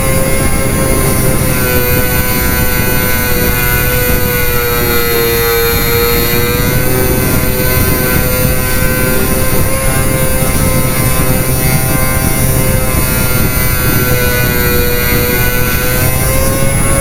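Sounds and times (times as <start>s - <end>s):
electric motors and propellers whining: 0.0s - 17.0s
wind rushing: 0.0s - 17.0s.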